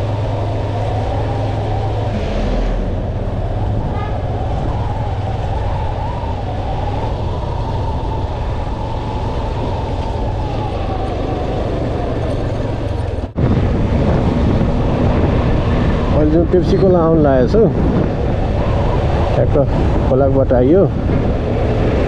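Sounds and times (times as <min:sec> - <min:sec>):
road and wind noise: 0:00.0 - 0:22.0.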